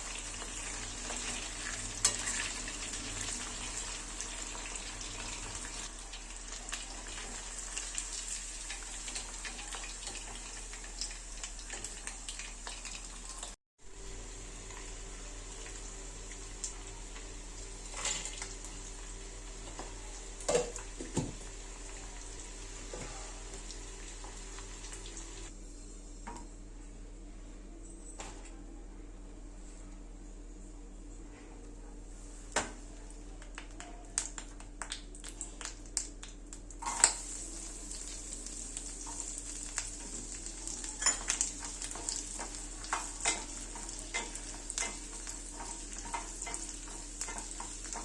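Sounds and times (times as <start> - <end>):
chicken sizzling in hot oil: 0.0 - 25.5, 35.0 - 48.0.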